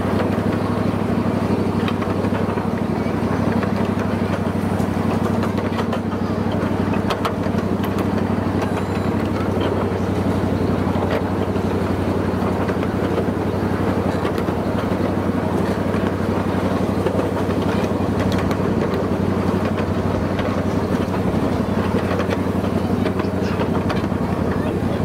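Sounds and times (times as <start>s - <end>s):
miniature train engine hum: 0.0s - 25.0s.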